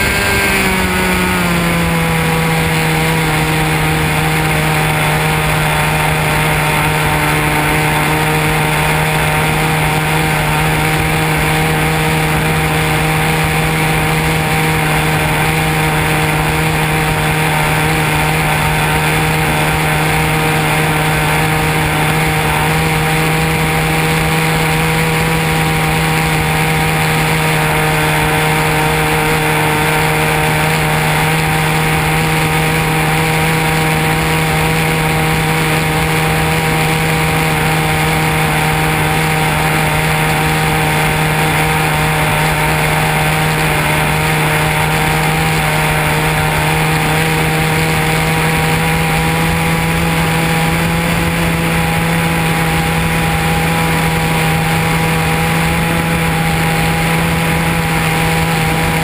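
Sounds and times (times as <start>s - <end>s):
model airplane motor droning: 0.0s - 59.0s.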